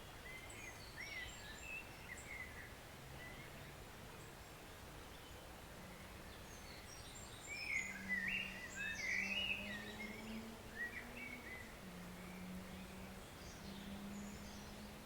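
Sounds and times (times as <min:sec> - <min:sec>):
forest stream running: 0:00.0 - 0:15.0
songbird chirping: 0:00.0 - 0:15.0.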